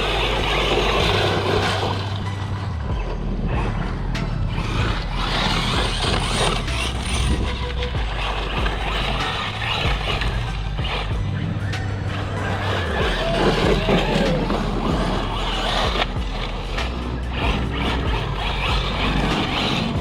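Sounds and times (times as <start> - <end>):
electric rc trucks driving: 0.0 - 20.0.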